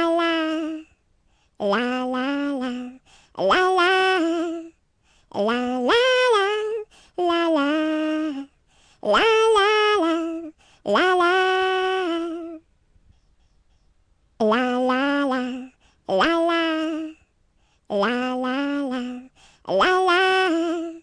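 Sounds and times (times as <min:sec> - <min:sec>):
person singing unaccompanied: 0:00.0 - 0:12.7, 0:14.3 - 0:21.0.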